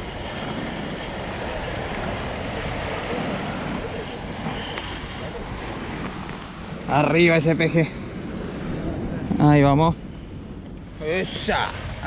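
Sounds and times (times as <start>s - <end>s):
sea surf breaking on rocks: 0.0s - 10.1s
wind on microphone: 0.0s - 12.0s.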